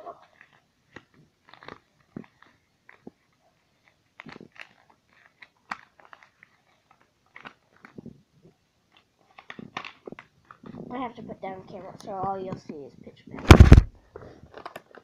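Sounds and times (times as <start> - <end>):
plastic toy rustling: 0.0 - 15.0.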